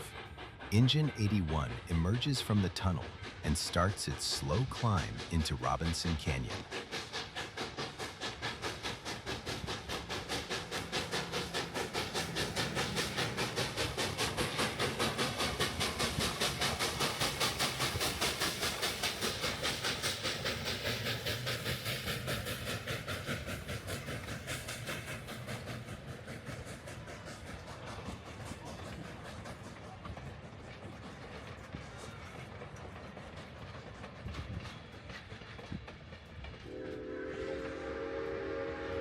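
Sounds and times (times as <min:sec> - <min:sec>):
steam locomotive chuffing: 0:00.0 - 0:39.0.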